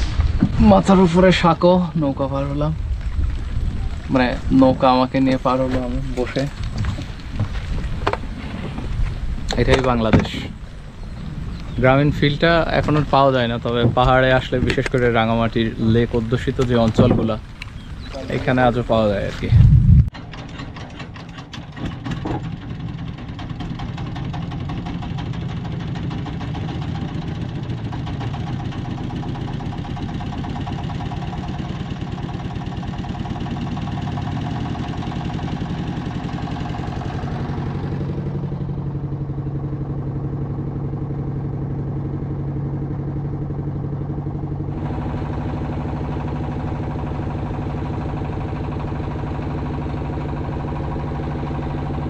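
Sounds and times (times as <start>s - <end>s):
boat engine running: 0.0s - 52.0s.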